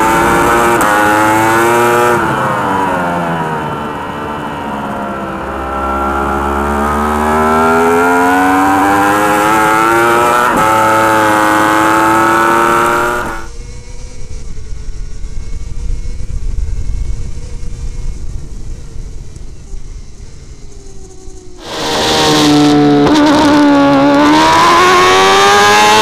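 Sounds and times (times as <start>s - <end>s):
motorcycle engine at racing speed: 0.0s - 26.0s.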